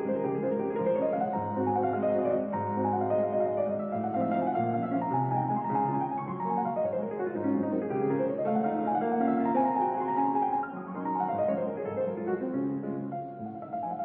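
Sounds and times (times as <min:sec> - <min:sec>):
classical piano music: 0:00.0 - 0:14.0.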